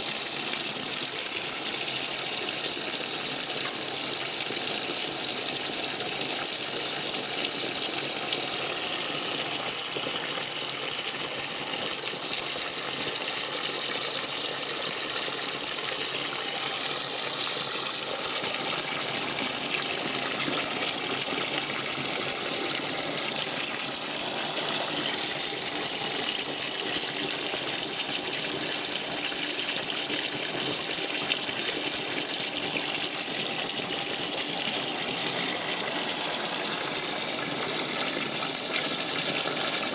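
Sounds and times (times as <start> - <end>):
washing machine water gushing: 0.0 - 39.9.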